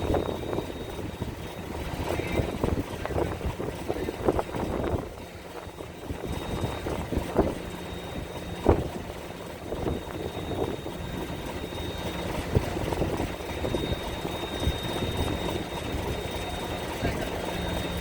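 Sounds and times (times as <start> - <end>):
ferry engine rumble: 0.0 - 18.0.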